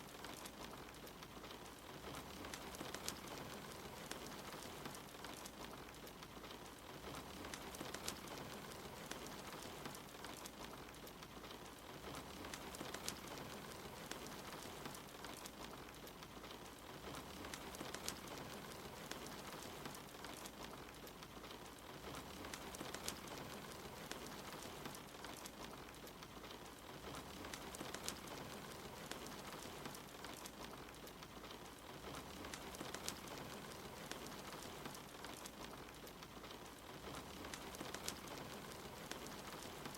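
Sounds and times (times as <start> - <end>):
soft rain: 0.0 - 39.9
wood fire crackling: 0.0 - 39.9.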